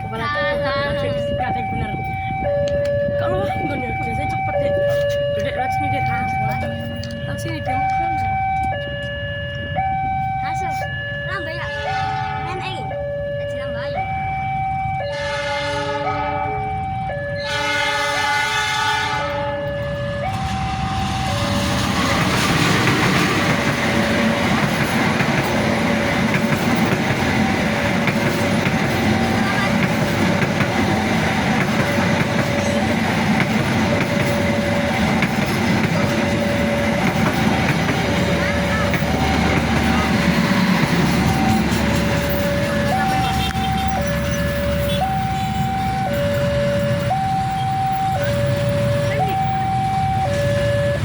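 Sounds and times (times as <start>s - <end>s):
train rumbling on rails: 0.0s - 51.0s
two-tone warning signal: 0.0s - 51.0s.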